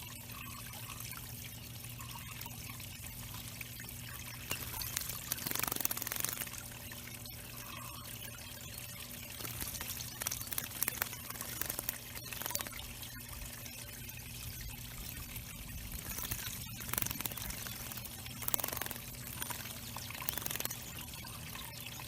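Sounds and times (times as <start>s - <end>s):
water pouring and trickling: 0.0s - 22.0s.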